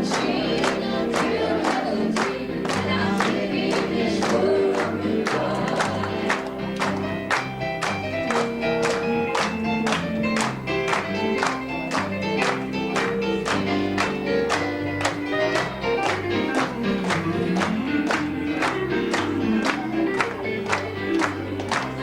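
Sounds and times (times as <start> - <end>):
country gospel band playing: 0.0 - 22.0.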